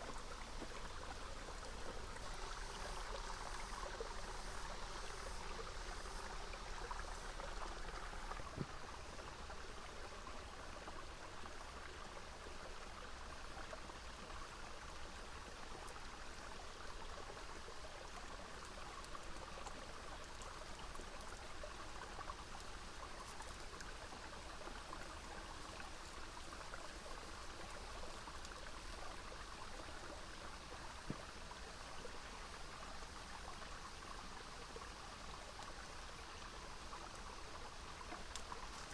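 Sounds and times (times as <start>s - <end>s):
small river flowing: 0.0s - 38.9s.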